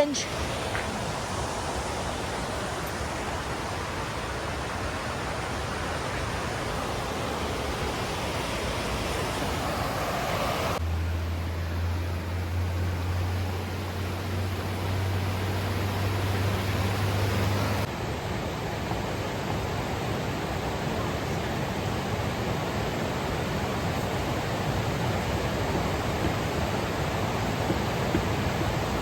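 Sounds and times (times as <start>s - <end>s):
rushing white water: 0.0s - 29.0s.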